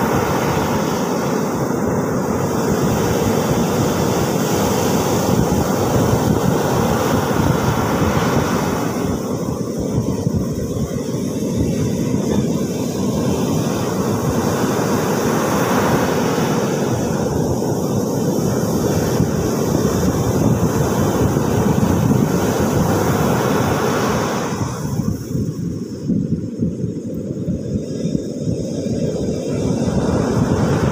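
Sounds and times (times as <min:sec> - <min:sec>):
ocean surf on beach: 0:00.0 - 0:30.9.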